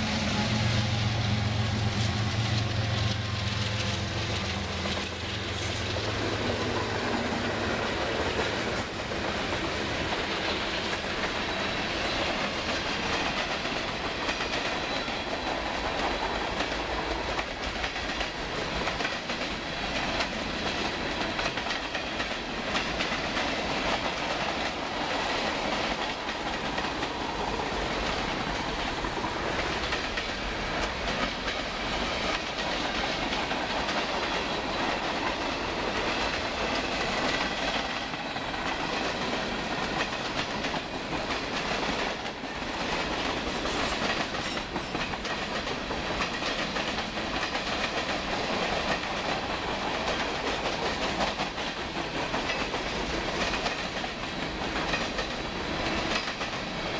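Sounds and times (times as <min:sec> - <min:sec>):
freight train wheels clattering: 0:00.0 - 0:56.9.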